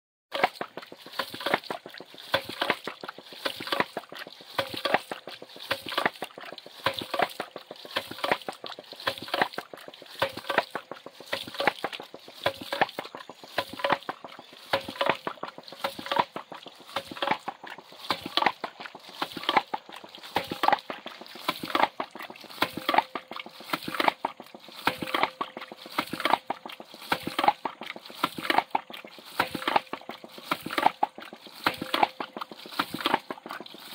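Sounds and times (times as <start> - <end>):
pump valve clacking: 0.3 - 33.9
water splashing on ground: 0.3 - 33.9.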